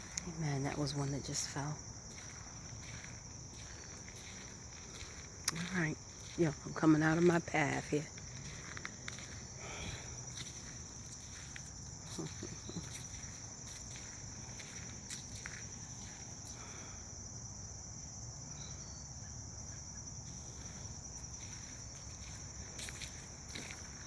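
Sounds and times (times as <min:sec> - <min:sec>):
footsteps on path: 0:00.0 - 0:17.0, 0:20.2 - 0:24.0
high-pitched insect chorus: 0:00.0 - 0:24.0.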